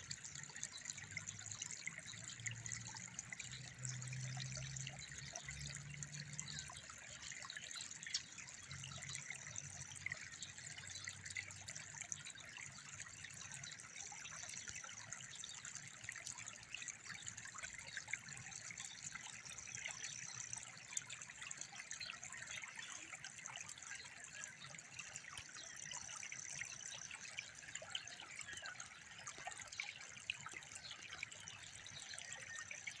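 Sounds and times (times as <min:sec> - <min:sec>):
trickling water: 0:00.0 - 0:33.0.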